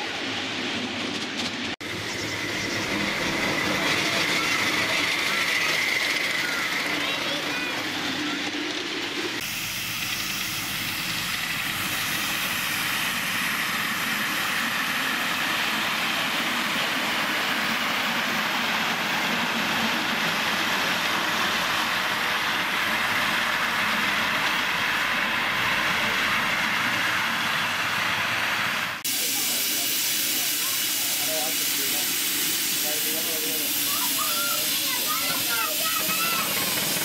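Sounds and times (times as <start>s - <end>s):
miniature steam locomotive hissing: 0.0s - 37.0s.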